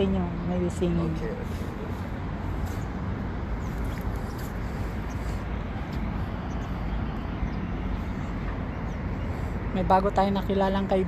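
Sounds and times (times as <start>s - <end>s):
outdoor background rumble: 0.0s - 11.0s.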